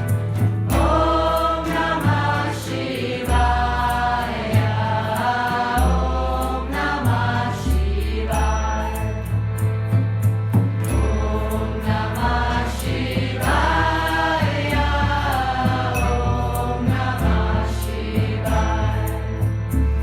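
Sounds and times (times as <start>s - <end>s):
bass line: 0.0s - 20.0s
voices chanting: 0.7s - 9.5s, 10.9s - 19.9s.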